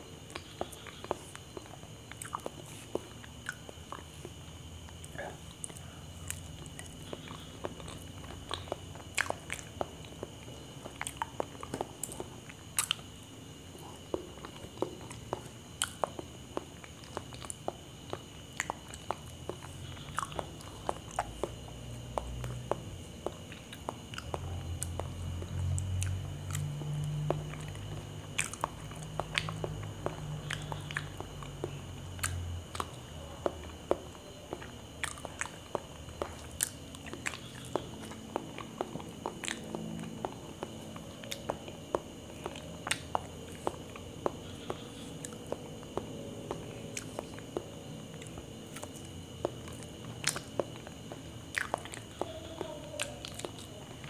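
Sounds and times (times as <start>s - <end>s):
chewing with wet mouth clicks: 0.2s - 54.0s.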